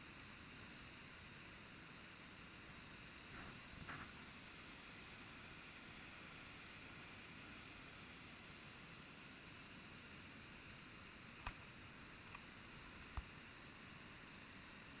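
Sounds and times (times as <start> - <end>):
faint waterfall rushing: 0.0 - 15.0.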